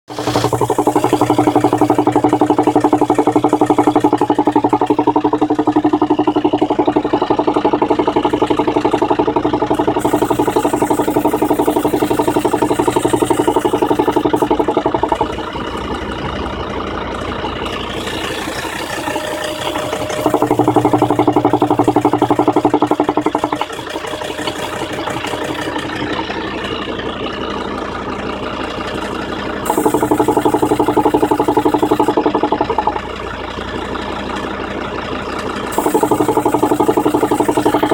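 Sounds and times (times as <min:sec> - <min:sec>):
engine popping noise: 0:00.0 - 0:37.9
diesel engine idling: 0:00.1 - 0:37.9.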